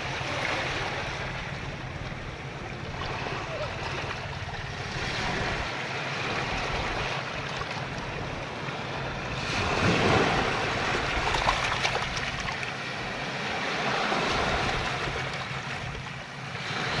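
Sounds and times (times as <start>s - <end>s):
ocean waves washing in: 0.0s - 17.0s.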